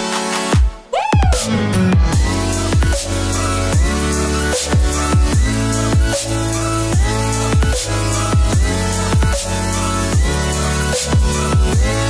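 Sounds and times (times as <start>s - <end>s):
dubstep music: 0.0s - 12.0s
synth chords with falling pitch sweeps: 1.4s - 12.0s.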